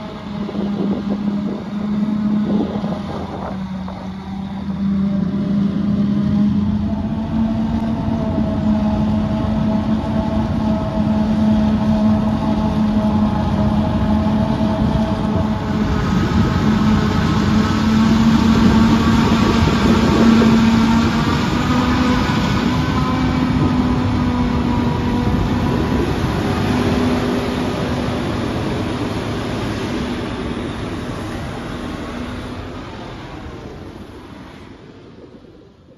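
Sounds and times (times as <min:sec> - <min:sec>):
heavy farm machinery engines: 0:00.0 - 0:35.8.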